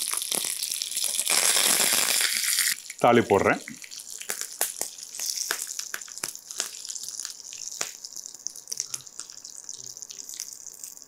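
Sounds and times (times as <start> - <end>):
hot oil sizzling: 0.0 - 11.0
seeds crackling and popping: 0.0 - 11.0.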